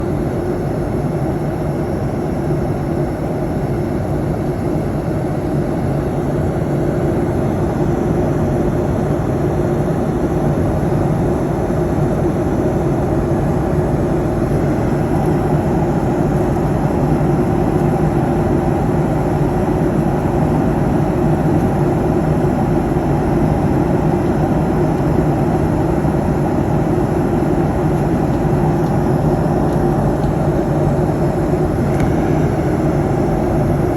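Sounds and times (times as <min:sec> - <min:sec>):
airliner cabin engine rush: 0:00.0 - 0:33.9.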